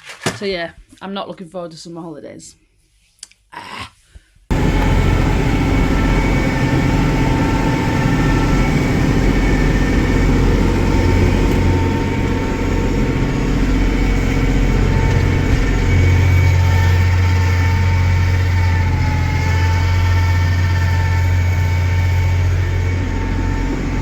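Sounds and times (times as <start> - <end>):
steady whine: 4.5 - 24.0
tractor engine mowing grass: 4.5 - 24.0.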